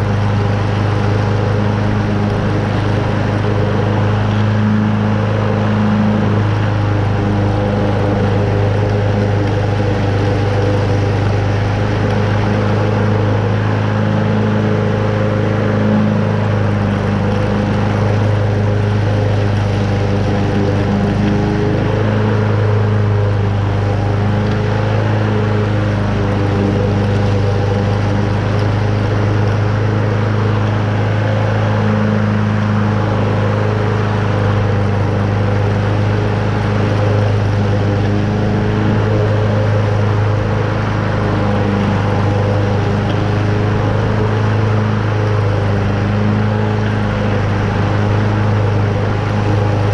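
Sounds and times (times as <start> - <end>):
lawn mower engine running: 0.0 - 49.9
mower blade cutting grass: 0.0 - 49.9.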